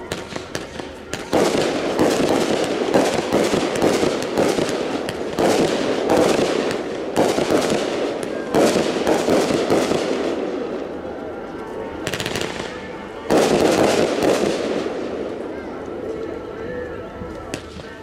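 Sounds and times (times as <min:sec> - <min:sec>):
fireworks bangs and crackling: 0:00.0 - 0:15.8.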